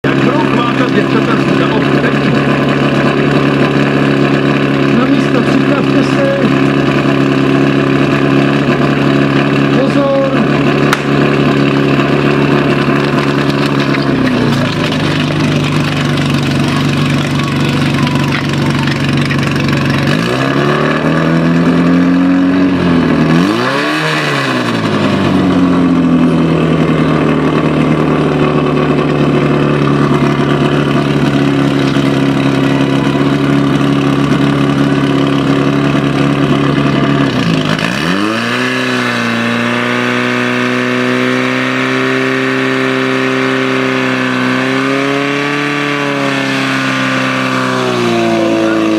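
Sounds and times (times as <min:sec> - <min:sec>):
pump engine running: 0:00.0 - 0:48.9.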